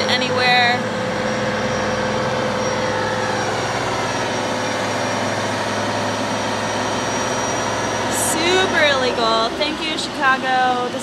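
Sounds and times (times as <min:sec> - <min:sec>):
heavy machinery engine drone: 0:00.0 - 0:11.0.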